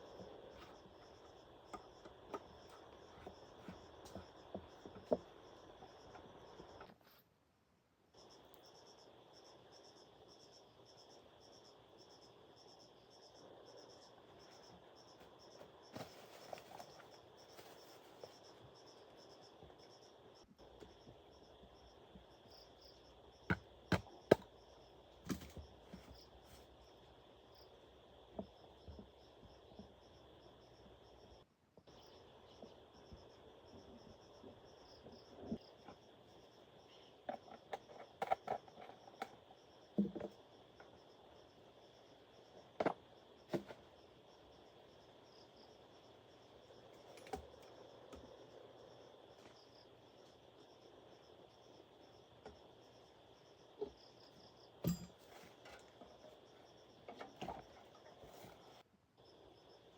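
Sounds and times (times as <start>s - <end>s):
insects chirping: 0.0s - 7.2s, 8.0s - 59.9s.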